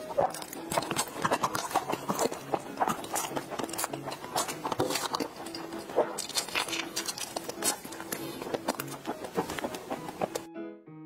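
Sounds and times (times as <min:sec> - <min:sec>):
metal spoon scraping plastic container: 0:00.0 - 0:10.4
wet chewing and lip-smacking: 0:00.0 - 0:10.5.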